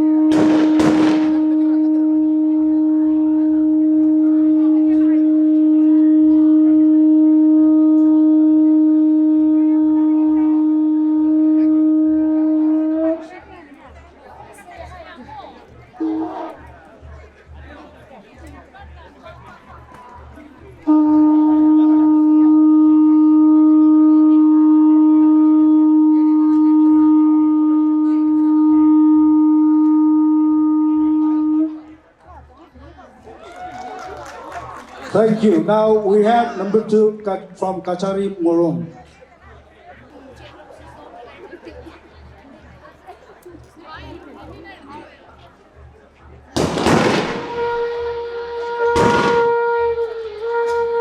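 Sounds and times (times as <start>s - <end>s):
horn long steady note: 0.0s - 33.3s, 34.6s - 51.0s
faint voices: 0.0s - 51.0s.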